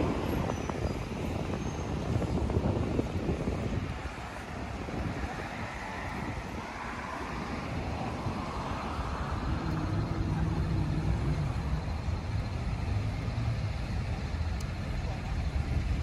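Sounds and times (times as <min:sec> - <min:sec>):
passing cars: 0:00.0 - 0:16.0
vehicle engine low hum: 0:00.0 - 0:16.0.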